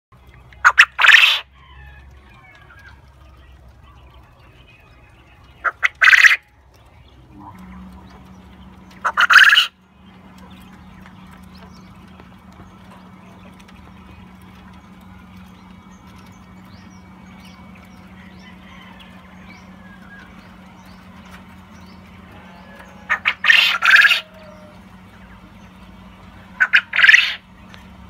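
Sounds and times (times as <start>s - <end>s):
quail crowing: 0.6s - 4.1s, 5.4s - 6.8s, 7.5s - 27.8s.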